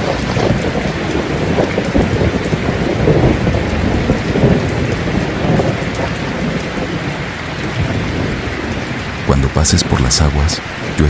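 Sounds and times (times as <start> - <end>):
heavy rain: 0.0 - 11.0
rolling thunder rumble: 0.0 - 11.0.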